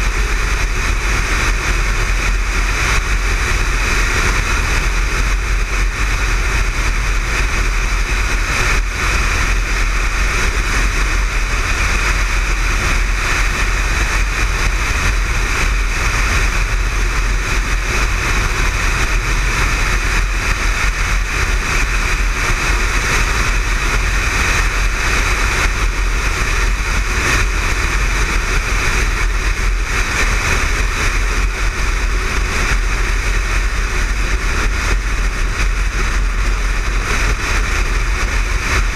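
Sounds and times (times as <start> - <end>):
motorcycle engine: 0.0 - 38.9
wind rushing over microphone: 0.0 - 38.9.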